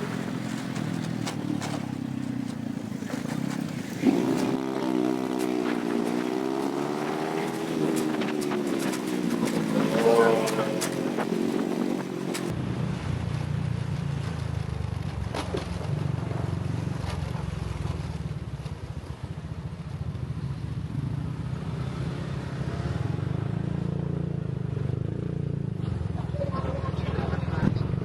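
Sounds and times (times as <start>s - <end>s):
motor scooter engine and road rumble: 0.0s - 28.0s.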